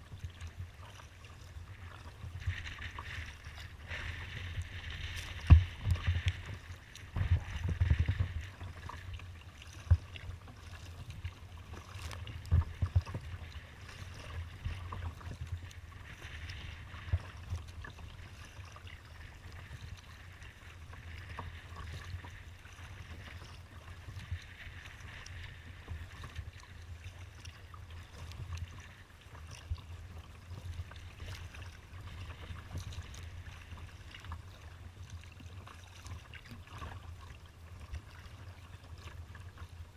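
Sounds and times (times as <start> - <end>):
water splashing against hull: 0.0 - 39.9.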